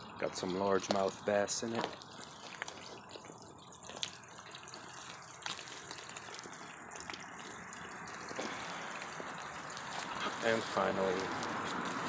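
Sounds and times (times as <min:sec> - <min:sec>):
water flowing and splashing: 0:00.0 - 0:12.0.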